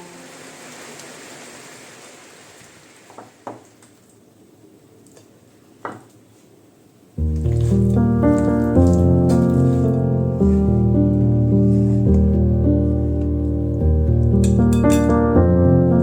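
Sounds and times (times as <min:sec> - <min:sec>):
soft steady hiss: 0:00.0 - 0:16.0.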